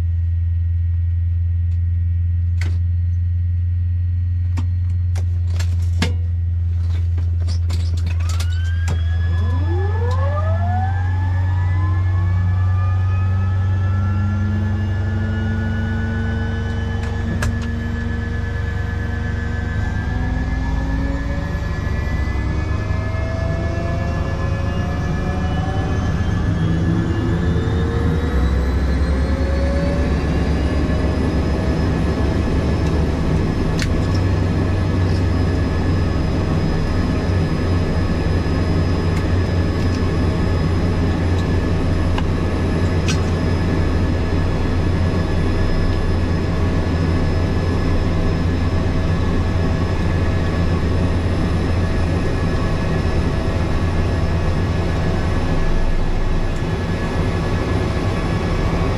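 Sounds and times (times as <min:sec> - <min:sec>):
turbine whine: 0:00.0 - 0:58.9
turboprop engine drone: 0:00.0 - 0:58.9.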